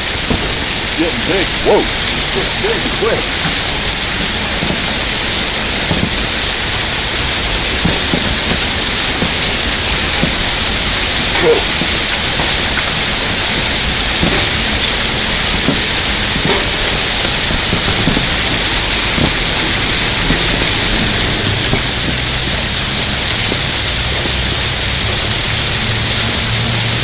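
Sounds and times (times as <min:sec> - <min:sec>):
sharp single hail hits: 0:00.0 - 0:25.0
hail clattering on ground: 0:00.0 - 0:27.0.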